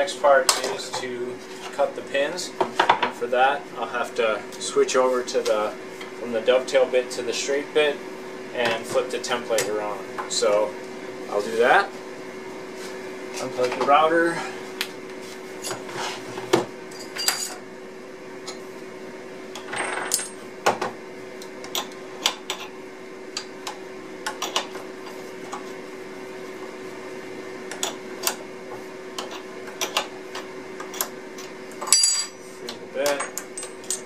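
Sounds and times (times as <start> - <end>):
steady hum: 0.0 - 34.0.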